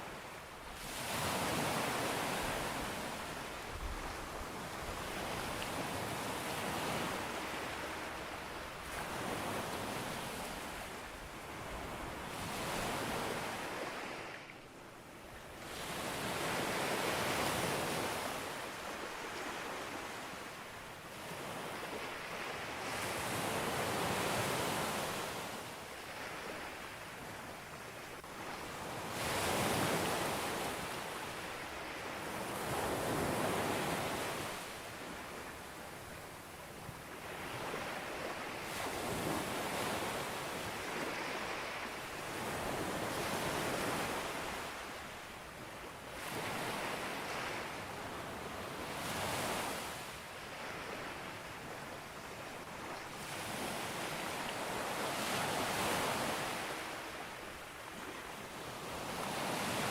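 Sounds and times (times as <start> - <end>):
ocean waves breaking on beach: 0.0 - 14.5, 15.6 - 59.9.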